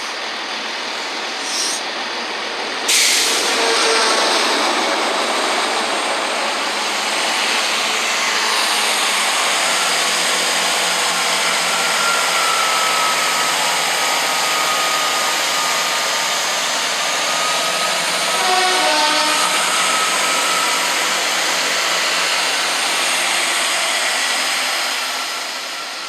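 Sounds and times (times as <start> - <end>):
train passing close by: 0.0 - 26.0.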